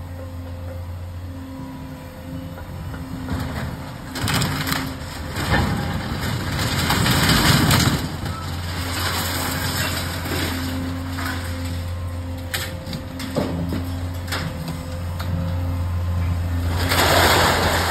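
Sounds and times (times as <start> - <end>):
machine low hum: 0.0 - 17.9
scrap metal crunching and clattering: 3.3 - 17.9.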